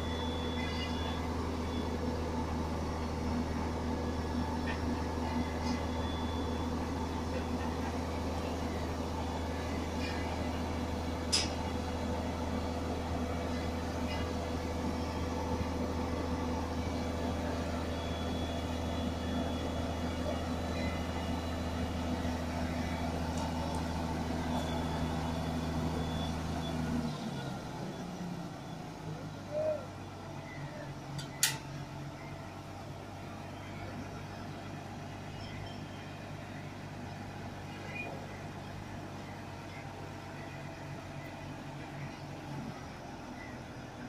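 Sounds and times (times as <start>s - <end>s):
crane diesel engine running: 0.0s - 44.0s.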